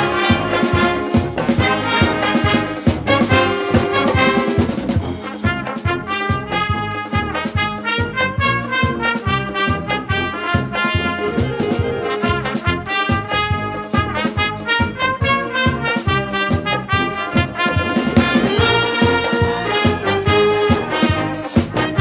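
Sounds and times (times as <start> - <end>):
brass music: 0.0 - 22.0
steady drum beat: 0.0 - 22.0.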